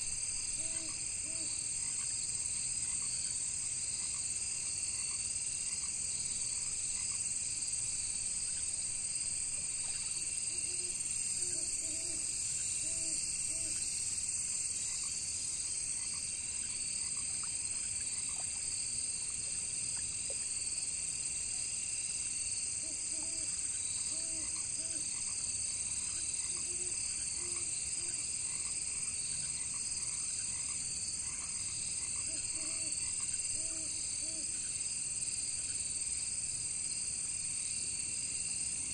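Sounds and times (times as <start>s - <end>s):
frogs croaking: 0.0s - 20.8s, 22.5s - 36.1s
crickets and insects trilling: 0.0s - 38.9s.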